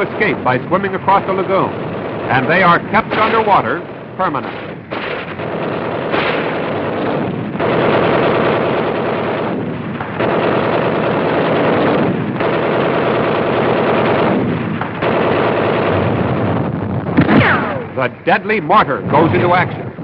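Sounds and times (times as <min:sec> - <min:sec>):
machine-gun fire: 0:00.0 - 0:20.0.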